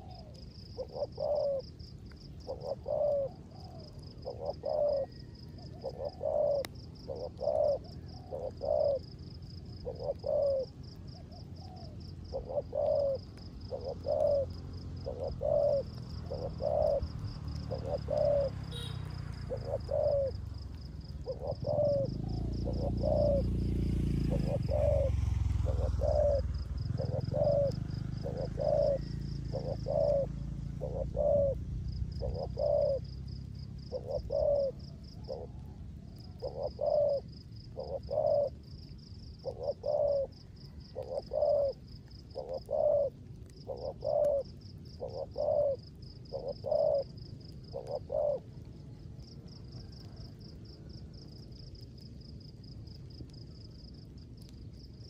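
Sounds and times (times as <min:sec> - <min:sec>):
high pulsing insect trill: 0:00.0 - 0:48.4
dove cooing: 0:00.0 - 0:53.9.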